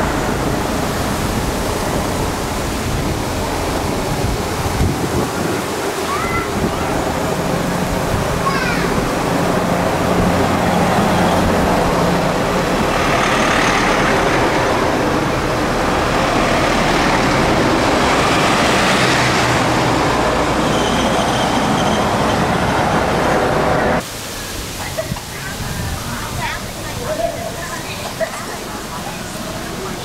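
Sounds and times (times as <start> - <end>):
vehicles passing close by: 0.0 - 24.0, 24.7 - 30.0.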